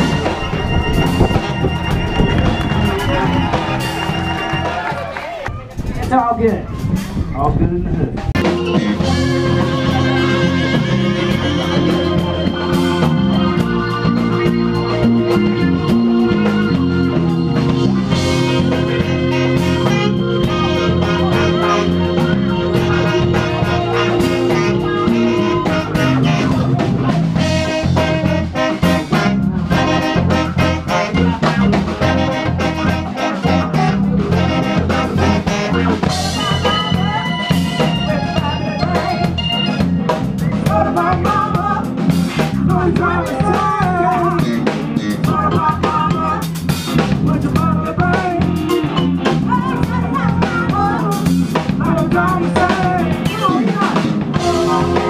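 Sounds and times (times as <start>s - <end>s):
saxophones: 0.0s - 5.4s, 8.4s - 46.7s, 54.3s - 55.0s
live band playing instrumental: 0.0s - 55.0s.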